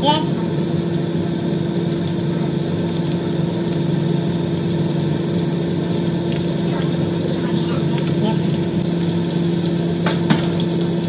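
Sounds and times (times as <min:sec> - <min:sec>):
chicken frying in oil: 0:00.0 - 0:11.0
low mechanical hum: 0:00.0 - 0:11.0.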